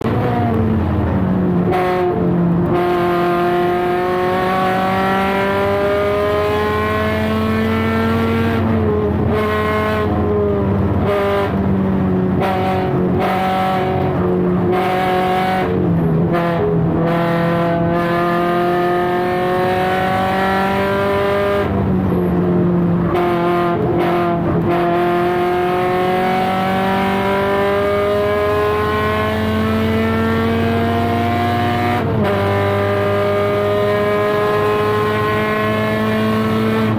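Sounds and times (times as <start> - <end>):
car engine revving at racing speed: 0.0 - 36.9.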